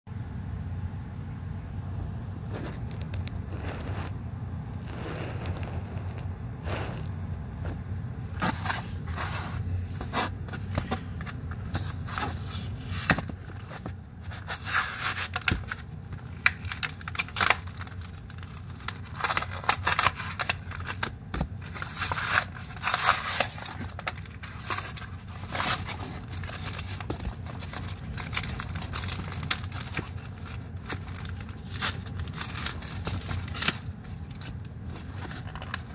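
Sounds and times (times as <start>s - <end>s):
plastic packaging crinkling: 2.5s - 4.2s, 4.8s - 7.7s, 10.6s - 35.9s.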